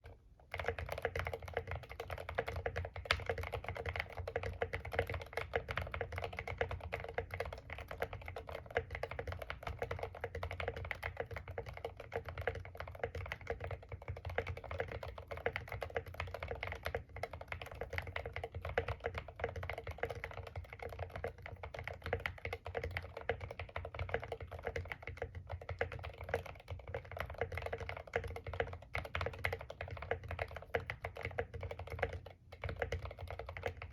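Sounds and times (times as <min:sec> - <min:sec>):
fast typing on mechanical keyboard: 0:00.0 - 0:33.9.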